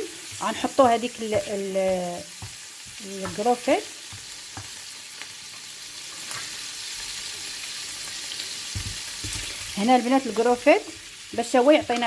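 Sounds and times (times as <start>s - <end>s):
shrimp sizzling in hot oil: 0.0s - 12.0s.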